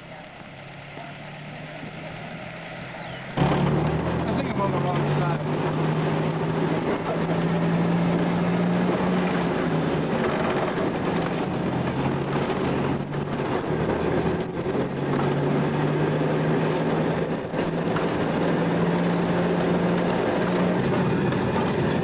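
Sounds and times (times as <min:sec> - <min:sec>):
engine drone: 0:00.0 - 0:22.0
wheels rattling on rails: 0:00.0 - 0:22.0.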